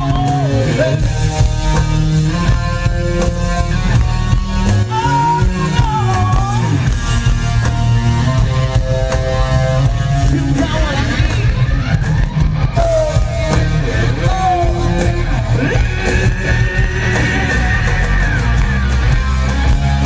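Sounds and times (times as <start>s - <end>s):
bass and drums: 0.0s - 20.0s
electric guitar chords: 0.0s - 20.0s
wavering guitar lead line: 0.0s - 20.0s.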